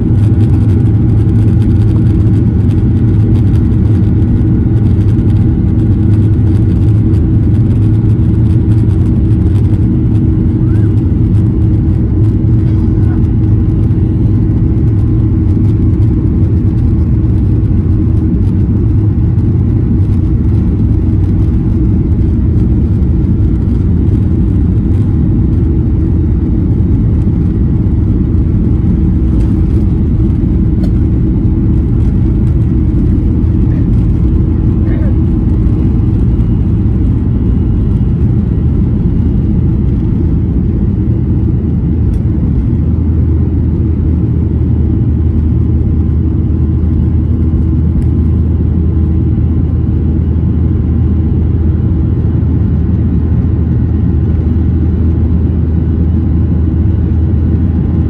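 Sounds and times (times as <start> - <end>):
jet cabin engine drone: 0.0 - 58.0.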